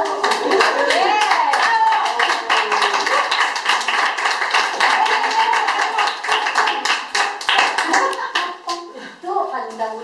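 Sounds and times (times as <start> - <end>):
people clapping: 0.0 - 9.0.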